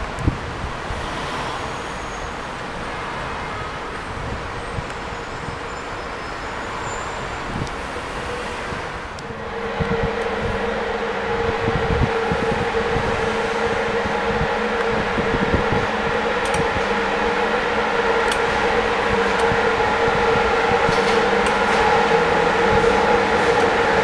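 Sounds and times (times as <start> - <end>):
train running by: 0.0 - 24.0.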